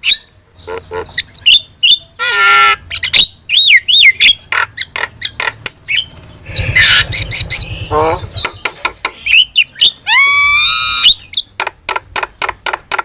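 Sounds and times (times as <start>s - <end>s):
bird harsh rasping squawks: 0.0s - 11.6s
starling chattering: 0.6s - 11.5s.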